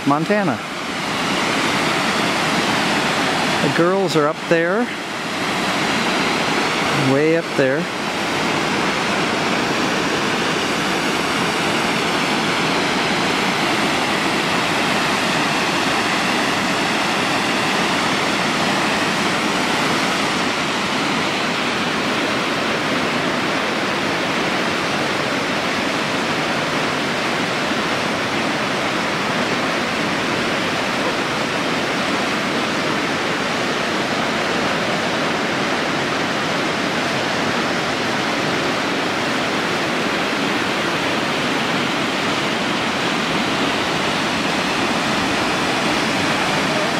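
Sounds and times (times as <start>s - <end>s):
water cascading over rocks: 0.0s - 46.9s.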